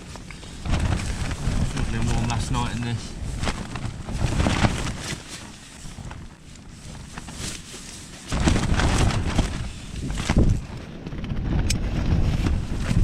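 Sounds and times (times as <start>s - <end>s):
wind buffeting microphone: 0.0s - 7.7s, 8.3s - 13.0s.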